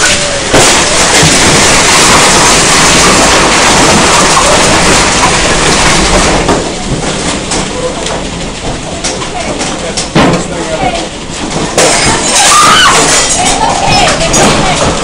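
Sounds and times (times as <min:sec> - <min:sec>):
tornado wind roaring: 0:00.0 - 0:15.0.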